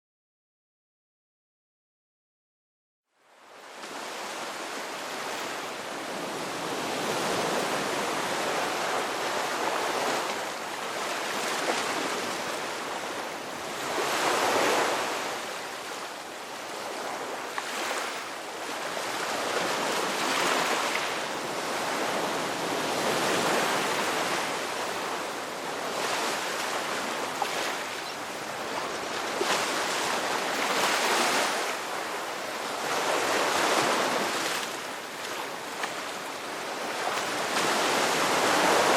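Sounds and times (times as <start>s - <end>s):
sea waves breaking on shore: 3.3s - 38.9s.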